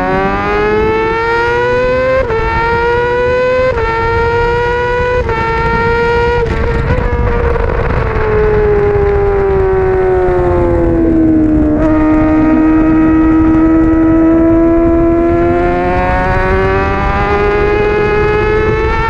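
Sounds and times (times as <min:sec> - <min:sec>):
motorcycle engine at racing speed: 0:00.0 - 0:19.0
wind rush on microphone: 0:00.0 - 0:19.0.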